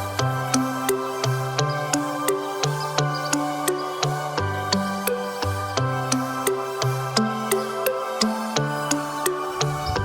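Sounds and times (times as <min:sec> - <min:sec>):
calm electronic music: 0:00.0 - 0:10.0.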